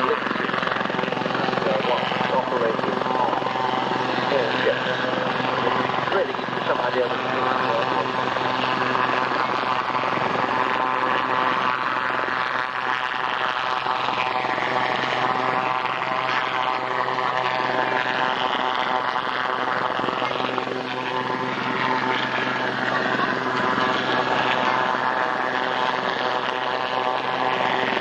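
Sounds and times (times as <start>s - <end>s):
helicopter engine and rotor drone: 0.0s - 28.0s
turbine whine: 0.0s - 28.0s.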